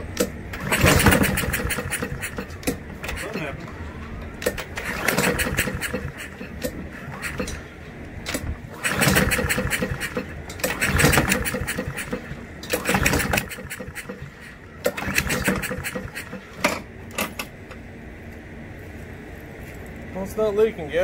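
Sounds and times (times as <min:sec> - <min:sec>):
lawnmower engine cranking: 0:00.0 - 0:03.7, 0:04.3 - 0:17.6.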